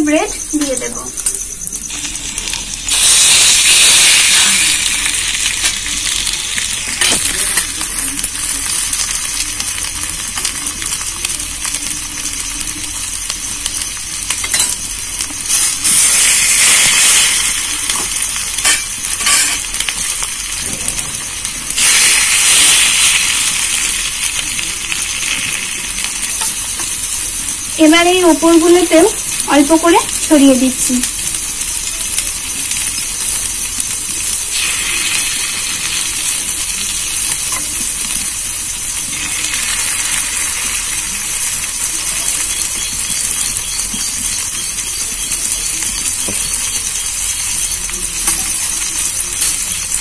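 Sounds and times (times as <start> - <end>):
bread sizzling in hot oil: 0.0 - 50.0.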